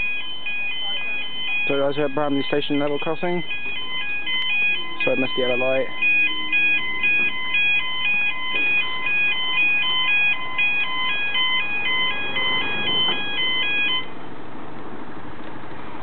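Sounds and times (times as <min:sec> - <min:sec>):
two-tone level crossing alarm: 0:00.0 - 0:14.2.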